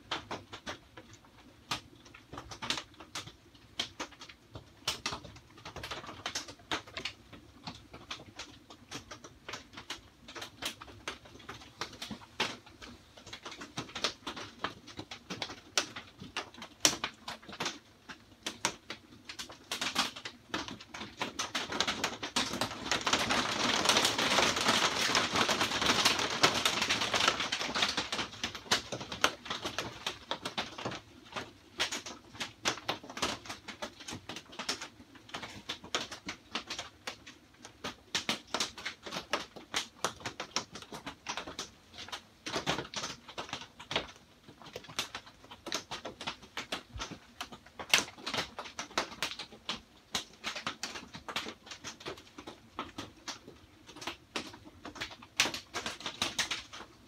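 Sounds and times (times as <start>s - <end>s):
rain on a plastic roof: 0.0s - 57.0s.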